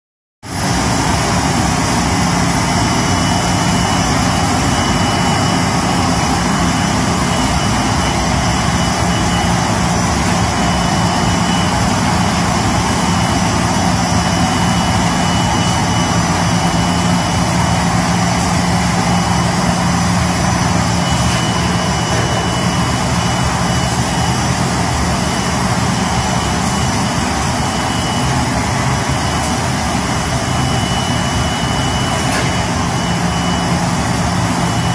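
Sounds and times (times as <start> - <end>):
machine humming and whining: 0.5 - 34.9.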